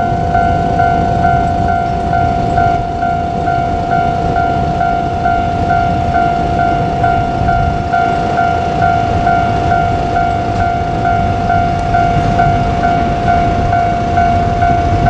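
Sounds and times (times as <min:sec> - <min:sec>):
level-crossing alarm clanging: 0:00.0 - 0:15.0.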